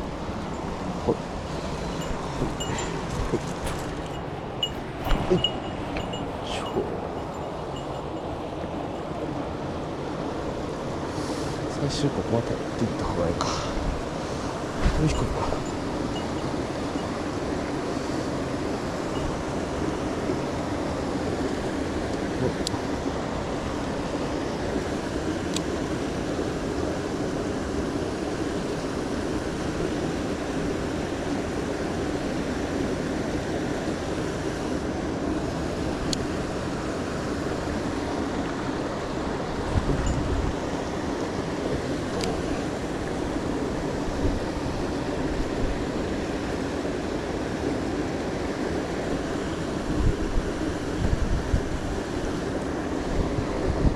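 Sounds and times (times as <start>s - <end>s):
mountain stream flowing: 0.0s - 53.9s.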